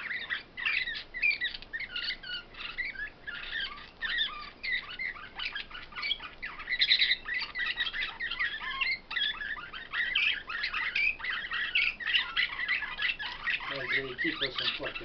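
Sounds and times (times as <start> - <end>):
songbirds twittering: 0.0 - 15.0.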